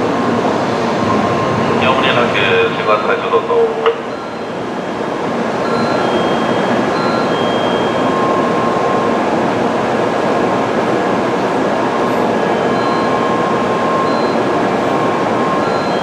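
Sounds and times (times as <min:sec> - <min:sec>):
train noise at platform: 0:00.0 - 0:16.0.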